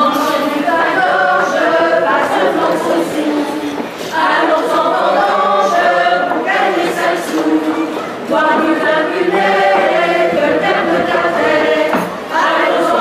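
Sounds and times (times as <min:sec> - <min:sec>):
group singing in chorus: 0:00.0 - 0:13.0.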